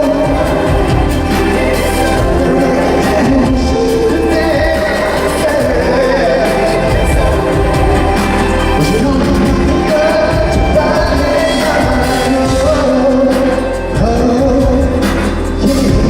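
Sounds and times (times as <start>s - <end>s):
heavy bass beat: 0.0s - 16.0s
pop music with singing: 0.0s - 16.0s.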